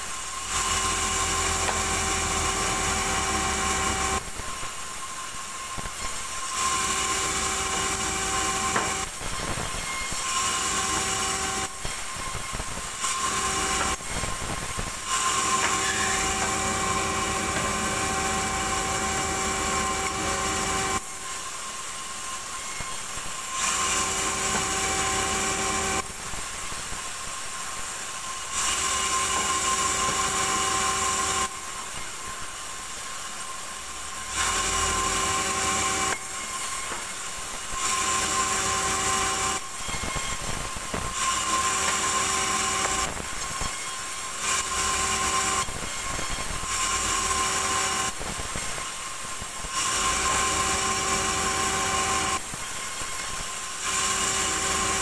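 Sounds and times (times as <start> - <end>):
band saw cutting log: 0.1 - 26.2, 28.1 - 55.0.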